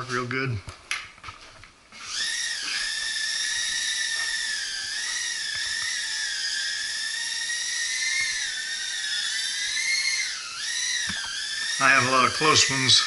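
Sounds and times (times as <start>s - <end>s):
quadcopter motors whining: 1.9s - 13.0s.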